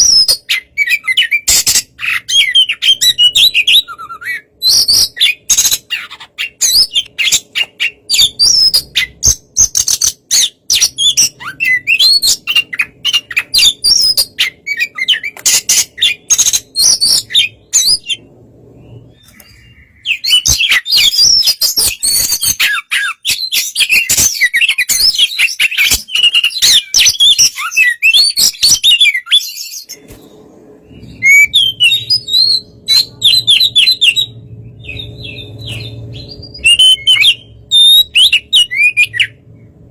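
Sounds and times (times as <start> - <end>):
bird singing chirps and whistles: 0.0 - 30.0, 31.0 - 39.4.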